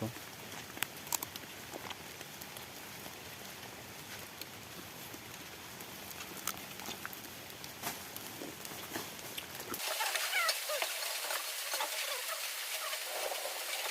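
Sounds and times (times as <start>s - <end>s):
rain in a forest: 0.0s - 13.9s.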